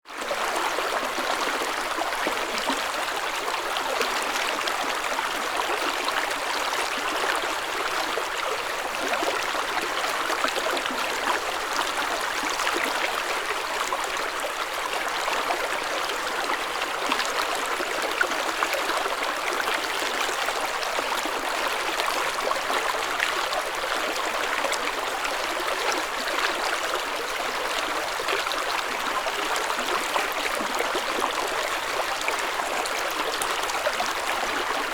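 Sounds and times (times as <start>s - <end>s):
stream water babbling: 0.1s - 34.9s.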